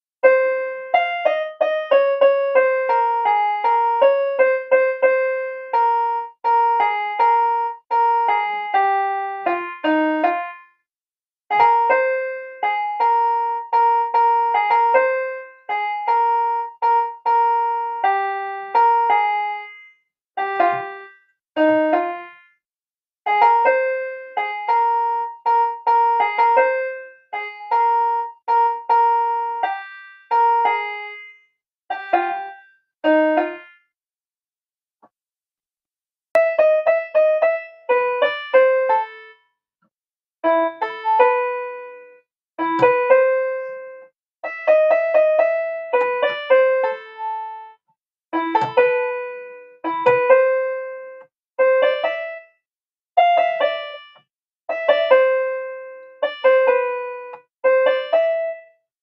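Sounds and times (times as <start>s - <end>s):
electronic keyboard melody: 0.0s - 10.8s, 11.5s - 22.6s, 23.2s - 33.9s, 36.4s - 39.4s, 40.4s - 52.6s, 53.2s - 59.0s.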